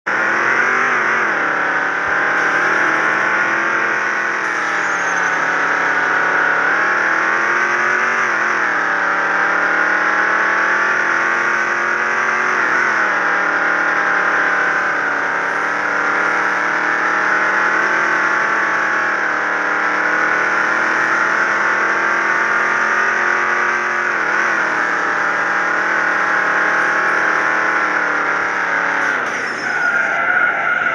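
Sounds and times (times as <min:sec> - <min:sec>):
car engine running under load: 0:00.0 - 0:30.9.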